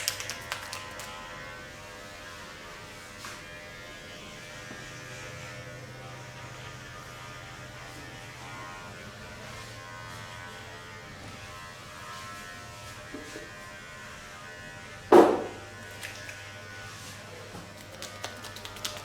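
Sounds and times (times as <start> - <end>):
electric buzz of handheld appliance: 0.0 - 17.4.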